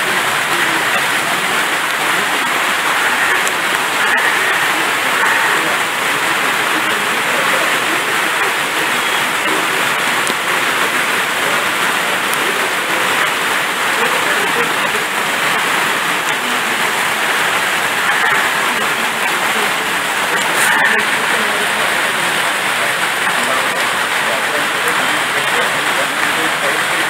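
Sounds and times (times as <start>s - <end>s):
loud steady rushing noise: 0.0s - 27.0s.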